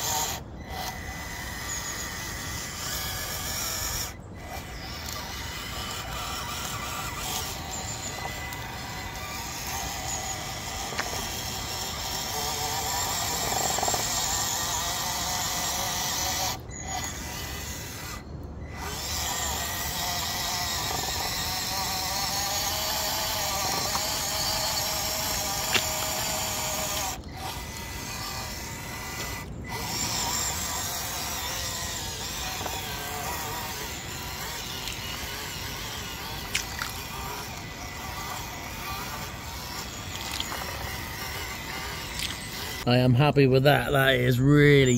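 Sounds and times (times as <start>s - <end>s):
small electric motor whining: 0.0s - 42.9s.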